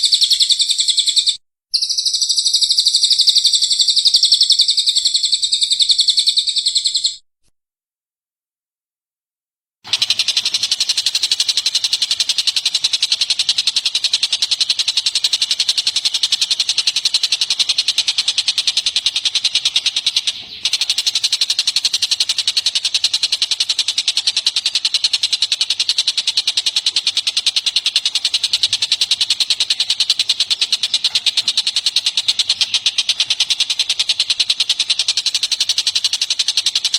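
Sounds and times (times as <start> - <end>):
songbird trilling: 0.0 - 7.2, 10.0 - 36.9.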